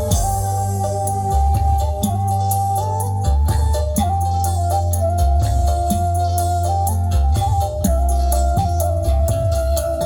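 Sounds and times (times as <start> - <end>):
heavy bass line: 0.0 - 10.0
held keyboard melody note: 0.0 - 10.0
hi-hat ticking: 0.0 - 10.0.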